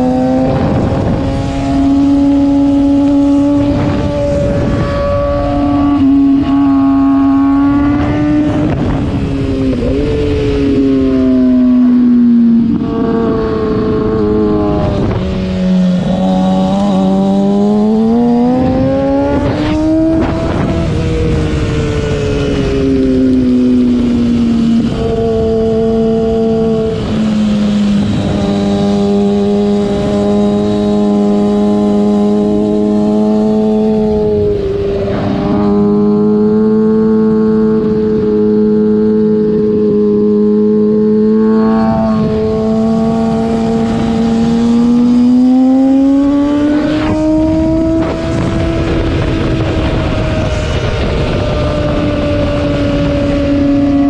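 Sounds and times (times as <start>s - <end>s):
motorcycle engine: 0.0s - 54.0s
wind rush: 0.0s - 54.0s.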